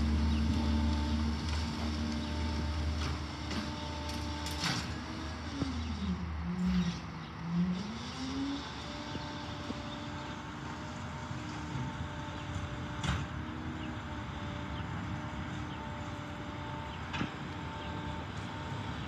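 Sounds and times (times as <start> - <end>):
garbage truck humming: 0.0 - 19.0.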